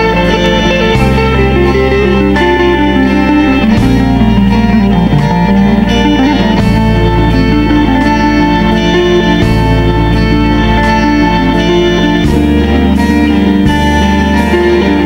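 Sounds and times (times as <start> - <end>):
guitar background music: 0.0 - 15.0
held bass notes: 0.0 - 15.0.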